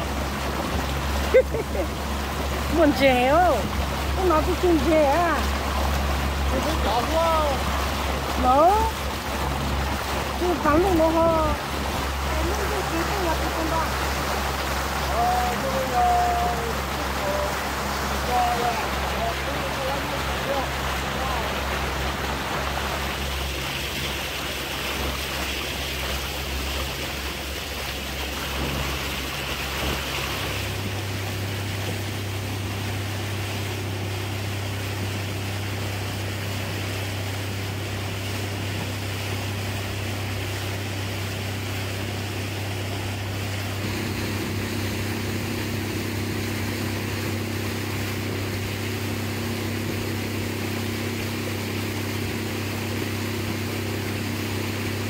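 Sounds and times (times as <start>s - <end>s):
boat motor running: 0.0s - 55.0s
higher hum: 0.0s - 55.0s
water rushing past hull: 0.0s - 55.0s.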